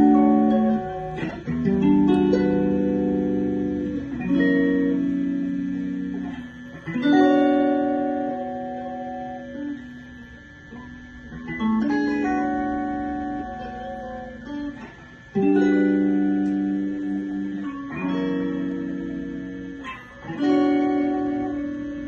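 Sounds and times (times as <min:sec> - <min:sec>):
guitar chords strummed: 0:00.0 - 0:22.0.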